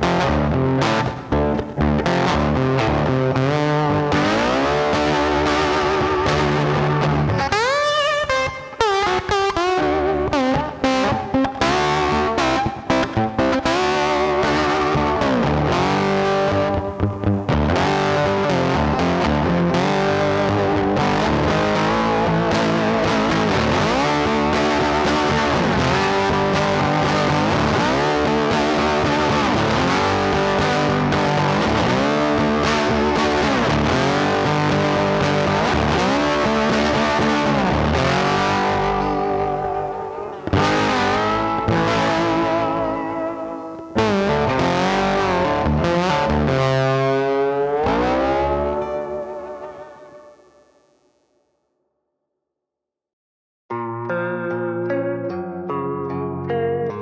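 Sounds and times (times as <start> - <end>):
distorted electric guitar music: 0.0 - 51.0, 53.7 - 57.0.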